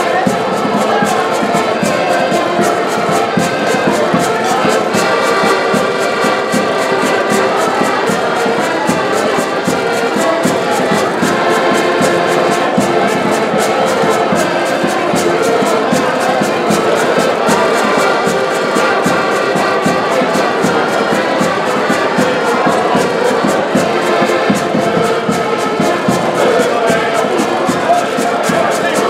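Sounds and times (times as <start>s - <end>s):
button accordions playing folk tune: 0.0s - 29.0s
clicking percussion beat: 0.0s - 29.0s.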